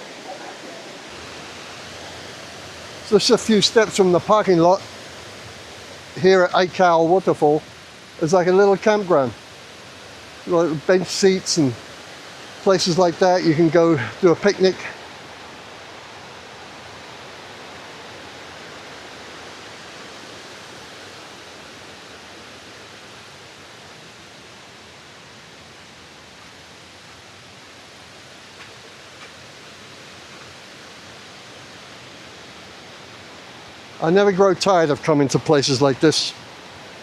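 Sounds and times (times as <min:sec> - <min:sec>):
waterfall stream rushing: 0:00.0 - 0:37.0.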